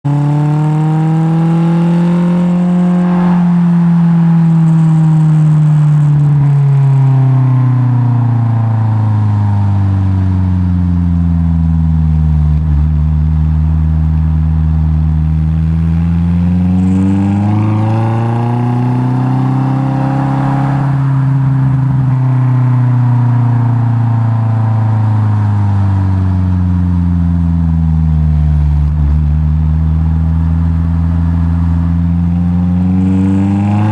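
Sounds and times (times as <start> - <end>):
car exhaust engine note: 0.1 - 33.9.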